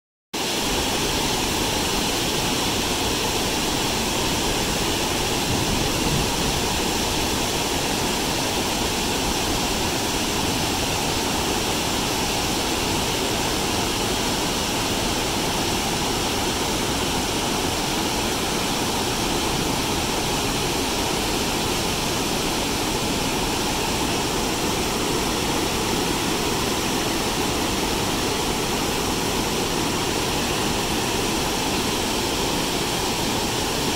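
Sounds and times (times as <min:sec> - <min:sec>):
waterfall rushing: 0:00.4 - 0:33.9.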